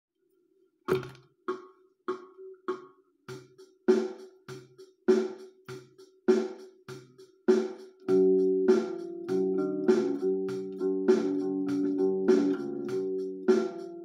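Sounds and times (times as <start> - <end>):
drum beat: 2.1 - 14.0.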